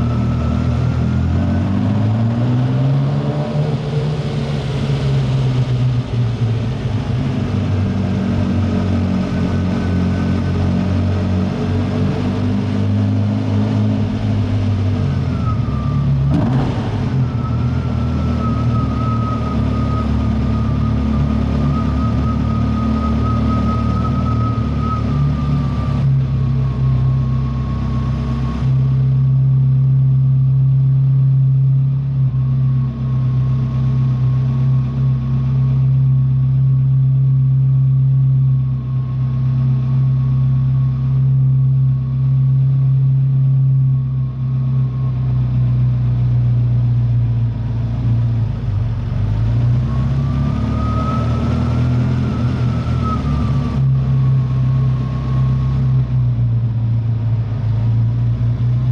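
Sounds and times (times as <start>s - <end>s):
sports car engine droning: 0.0s - 58.9s.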